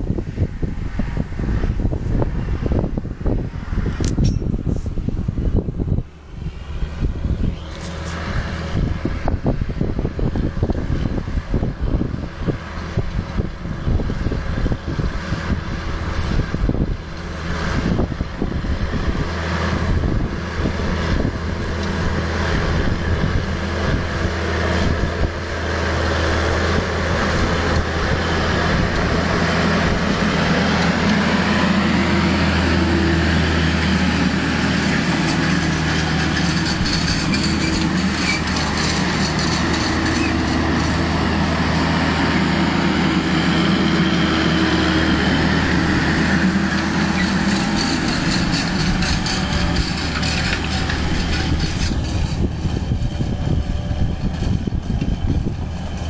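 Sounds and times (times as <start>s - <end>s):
tractor diesel engine under load: 0.0s - 56.0s
wind buffeting microphone: 0.0s - 56.0s.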